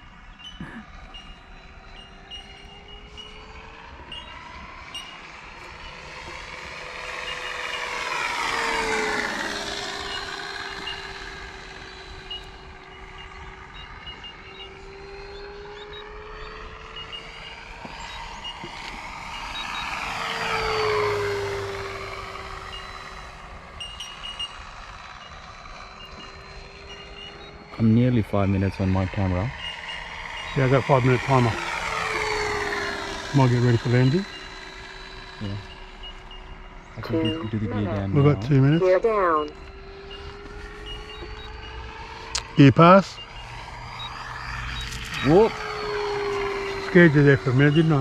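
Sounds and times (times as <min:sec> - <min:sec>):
model plane motor and propeller: 0:00.0 - 0:48.0.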